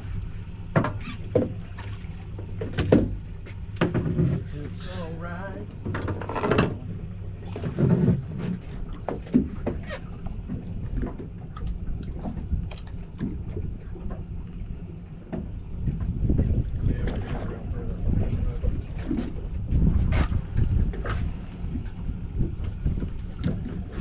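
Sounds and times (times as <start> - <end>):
boat engine hum: 0.0 - 24.0.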